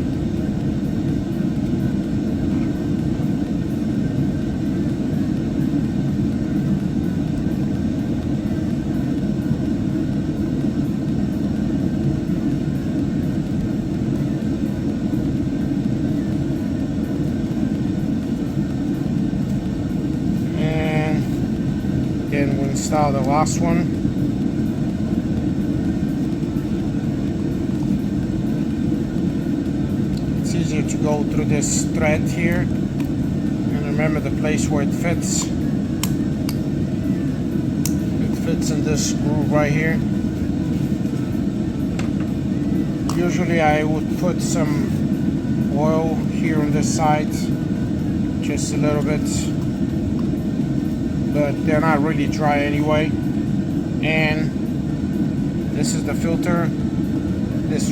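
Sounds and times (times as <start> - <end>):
low rumbling background noise: 0.0 - 57.9.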